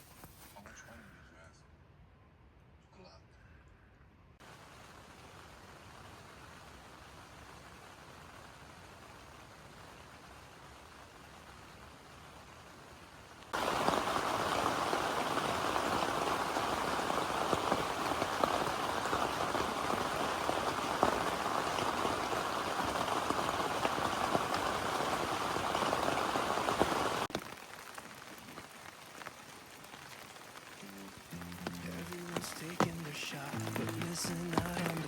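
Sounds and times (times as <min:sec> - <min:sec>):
heavy rain pattering: 0:04.4 - 0:35.0.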